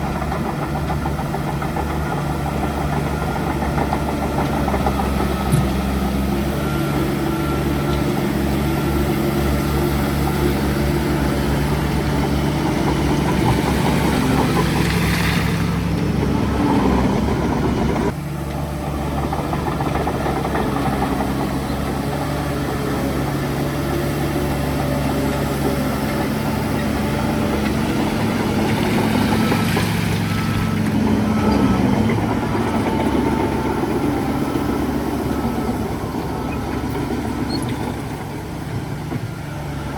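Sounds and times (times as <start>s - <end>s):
heavy diesel engine revving: 0.0s - 39.9s.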